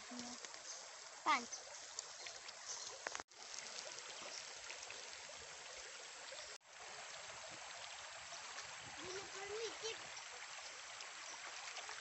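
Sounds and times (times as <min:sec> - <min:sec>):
stream rushing: 0:00.9 - 0:12.0.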